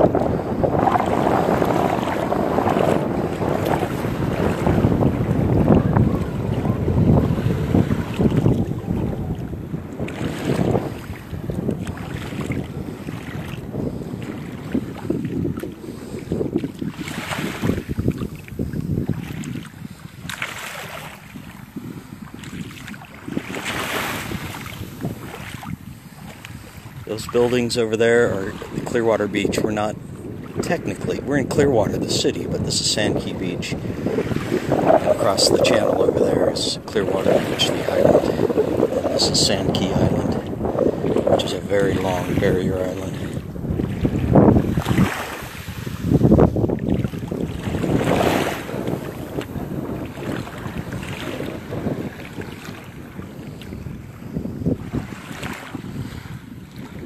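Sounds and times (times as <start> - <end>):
small waves washing on sand: 0.0 - 57.0
wind buffeting microphone: 0.0 - 57.0.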